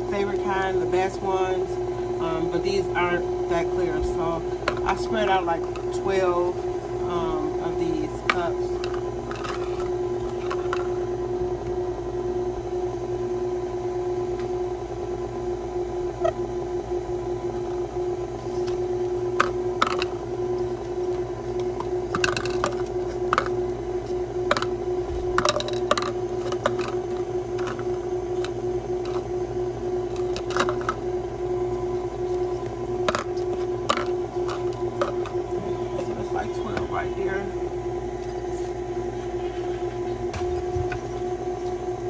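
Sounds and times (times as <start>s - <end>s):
electric mixer motor humming: 0.0s - 42.0s.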